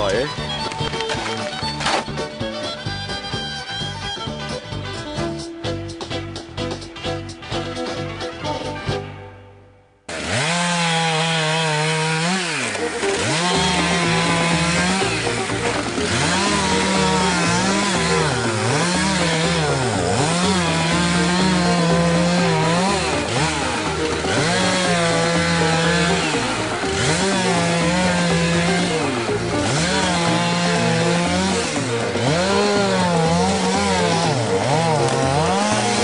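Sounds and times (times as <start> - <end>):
chainsaw cutting ice: 0.0 - 3.4, 10.1 - 36.0.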